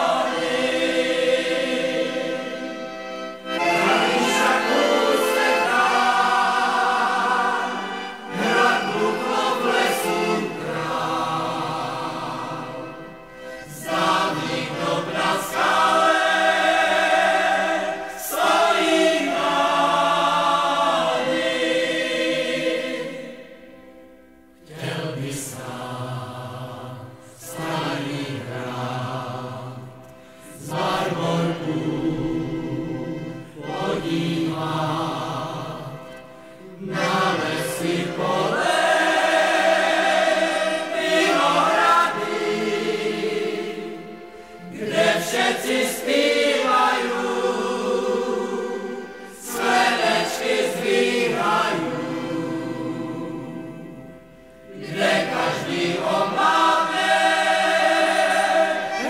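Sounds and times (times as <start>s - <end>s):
group singing in harmony: 0.0s - 59.0s.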